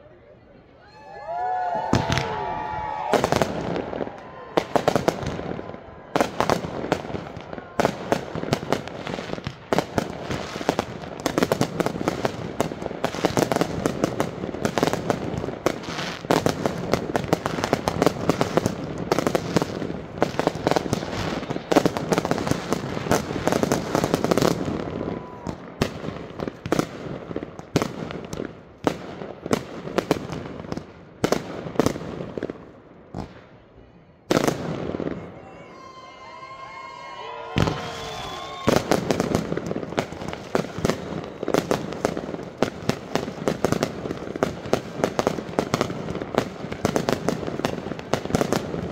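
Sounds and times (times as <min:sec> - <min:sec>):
fireworks bangs: 0:01.8 - 0:33.6, 0:34.3 - 0:48.9.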